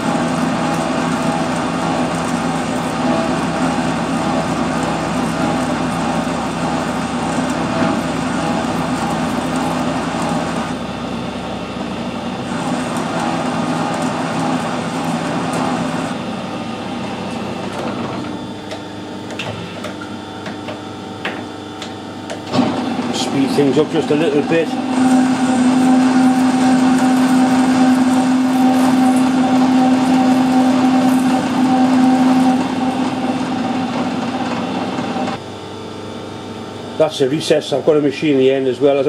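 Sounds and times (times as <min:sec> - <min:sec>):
metal lathe humming: 0:00.0 - 0:35.4.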